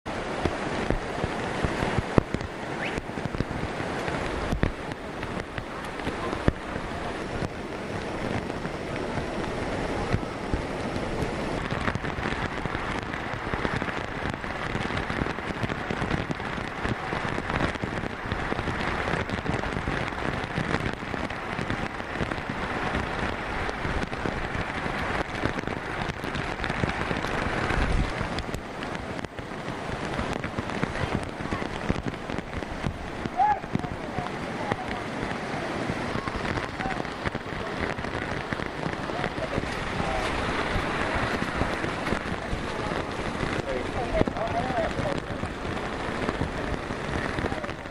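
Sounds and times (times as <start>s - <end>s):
floodwater rushing: 0.0s - 47.9s.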